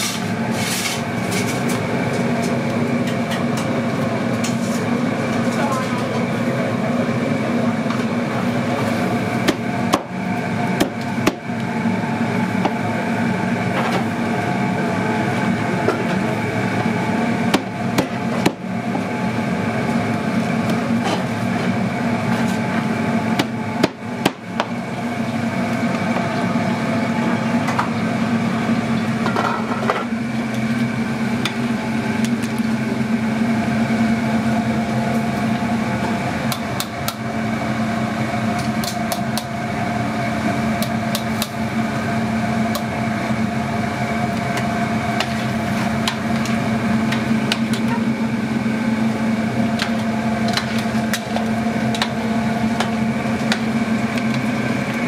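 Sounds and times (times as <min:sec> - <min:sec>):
kitchen machinery hum: 0:00.0 - 0:55.0.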